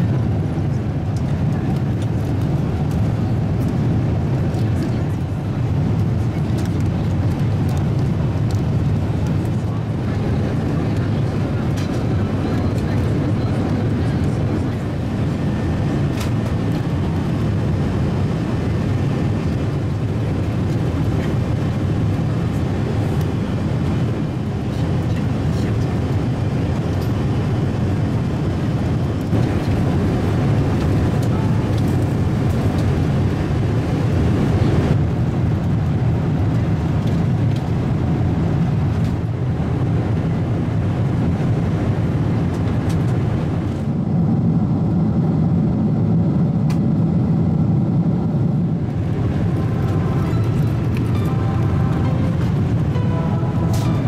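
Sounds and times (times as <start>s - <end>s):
airliner cabin rushing noise: 0.1s - 39.3s, 41.0s - 54.0s.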